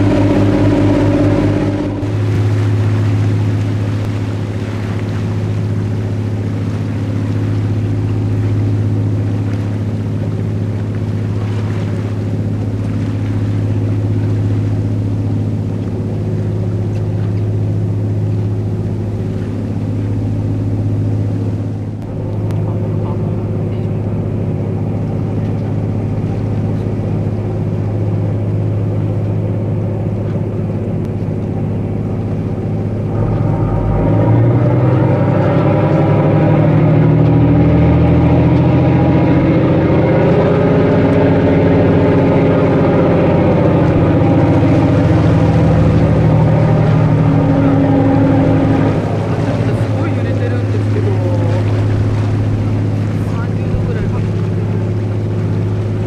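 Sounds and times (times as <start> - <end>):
ship engines droning: 0.0 - 56.0
water rushing past hull: 0.0 - 56.0.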